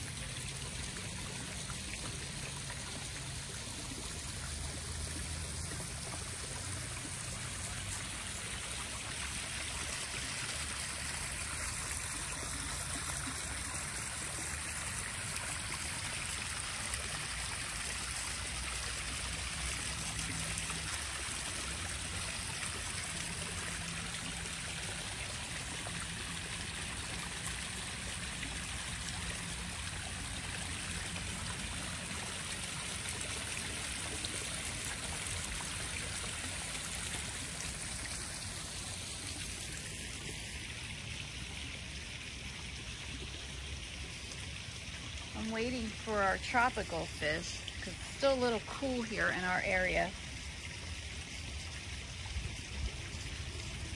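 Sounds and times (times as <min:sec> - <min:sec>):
small waterfall trickling: 0:00.0 - 0:53.9.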